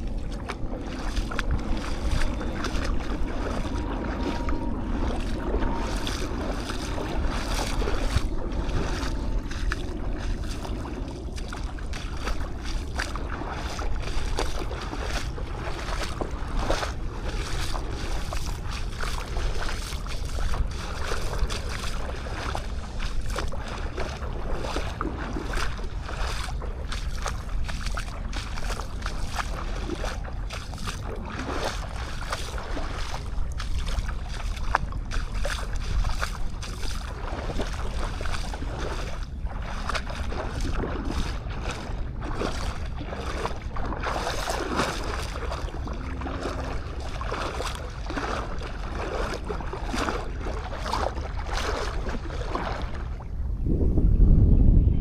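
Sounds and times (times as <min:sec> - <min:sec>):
sea waves washing on beach: 0:00.0 - 0:53.3
wind rumbling on microphone: 0:00.0 - 0:55.0.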